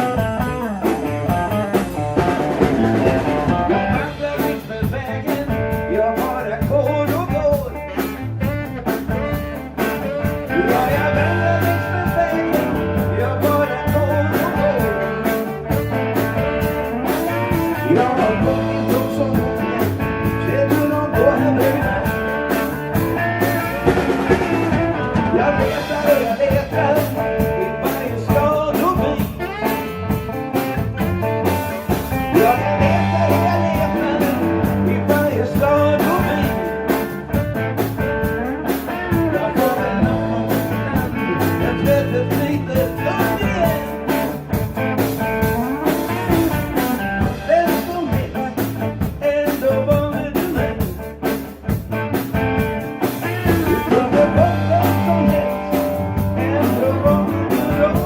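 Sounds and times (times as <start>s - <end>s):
person singing: 0.0s - 37.6s, 38.4s - 51.3s, 52.9s - 58.0s
blues band playing live: 0.0s - 58.0s
drum beat: 0.0s - 58.0s.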